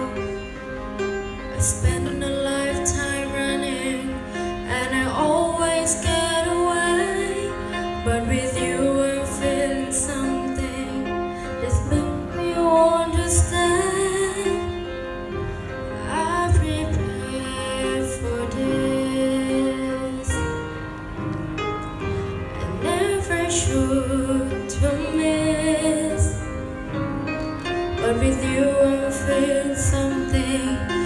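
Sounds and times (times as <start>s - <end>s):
grand piano: 0.0s - 31.0s
girl singing ballad: 1.5s - 14.9s, 16.0s - 20.8s, 22.6s - 26.6s, 27.9s - 31.0s.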